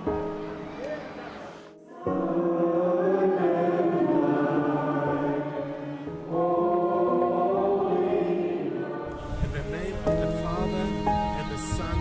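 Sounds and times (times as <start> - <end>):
choir singing held notes: 0.0 - 12.0.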